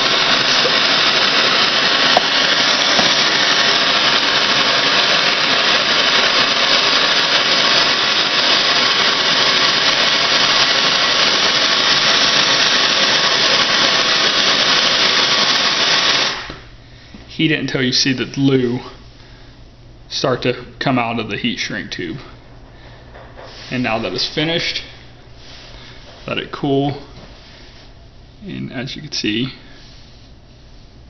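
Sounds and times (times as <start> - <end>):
gas torch flame hissing: 0.0 - 19.5, 21.0 - 28.1.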